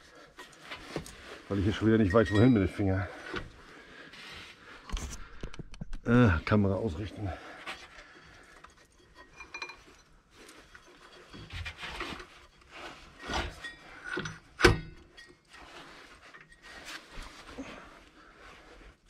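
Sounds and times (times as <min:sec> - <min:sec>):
handling rubbing and rustling: 0:00.0 - 0:05.6, 0:06.3 - 0:19.0.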